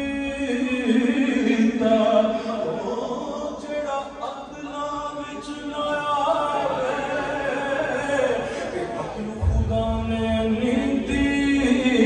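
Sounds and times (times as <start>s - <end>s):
man singing devotional chant: 0.0s - 12.0s.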